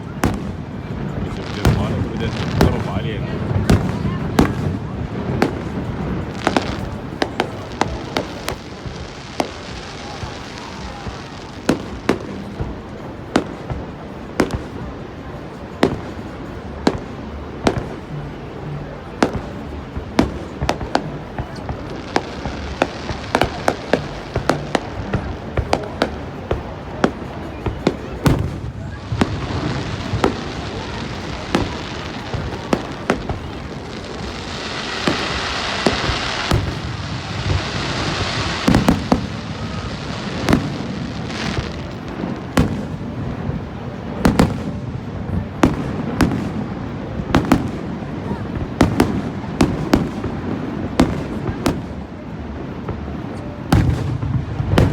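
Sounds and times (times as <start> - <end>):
fireworks banging and crackling: 0.0 - 54.9
steady background hiss: 0.0 - 54.9.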